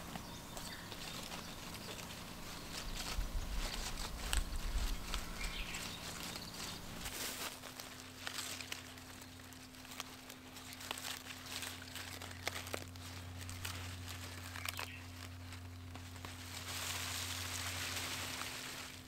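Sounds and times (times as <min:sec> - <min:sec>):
lettuce leaves rustling: 0:00.0 - 0:19.0.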